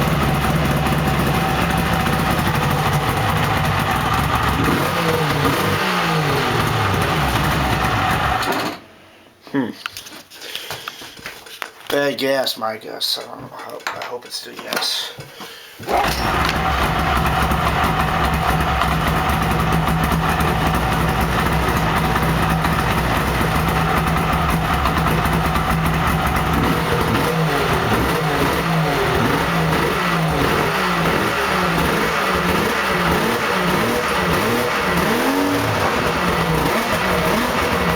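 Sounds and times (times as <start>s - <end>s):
snowmobile engine revving: 0.0s - 8.4s, 15.9s - 37.9s.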